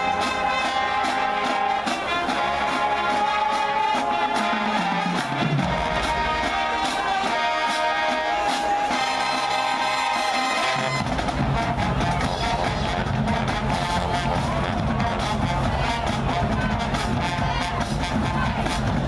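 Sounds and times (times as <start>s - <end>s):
brass horns holding chords: 0.0s - 19.0s
steady drum beat: 0.0s - 19.0s.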